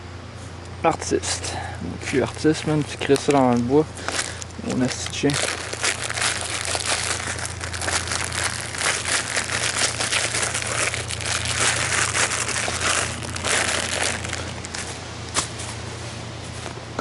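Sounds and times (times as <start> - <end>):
leaves and soil crunching: 1.2 - 16.8.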